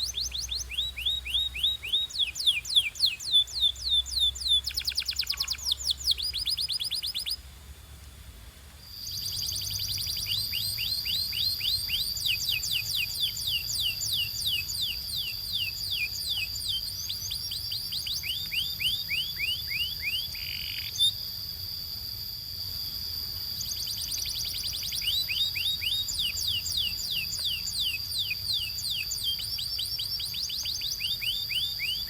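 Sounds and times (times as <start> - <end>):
canary singing: 0.0 - 7.4, 9.0 - 21.2, 23.4 - 32.0
high whistle-like tone: 0.0 - 7.4, 8.8 - 32.0.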